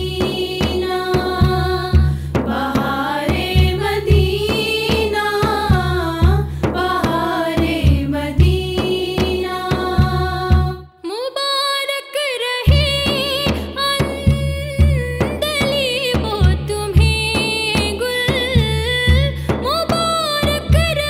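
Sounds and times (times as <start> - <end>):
frame drums beating: 0.0 - 10.8, 12.7 - 21.0
woman singing devotional song: 0.0 - 21.0.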